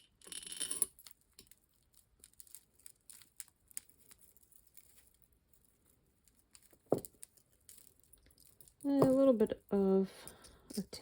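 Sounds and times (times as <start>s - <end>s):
jewelry pieces clinking: 0.0s - 5.2s, 6.2s - 11.0s.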